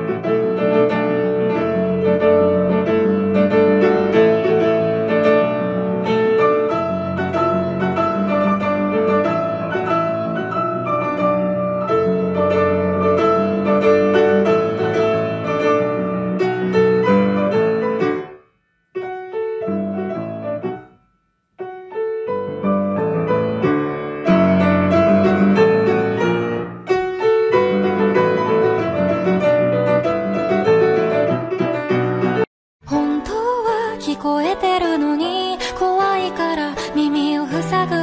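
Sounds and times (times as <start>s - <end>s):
grand piano four hands: 0.0s - 33.0s.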